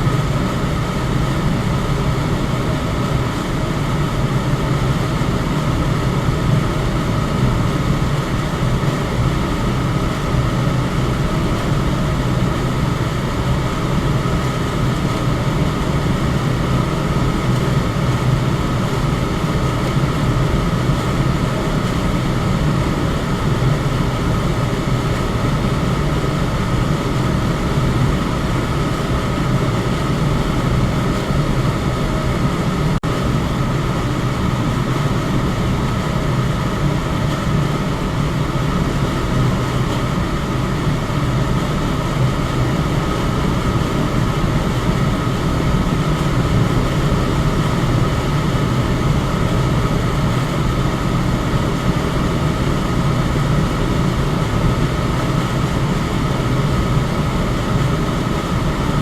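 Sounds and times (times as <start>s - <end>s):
electric fan whoosh: 0.0s - 59.0s.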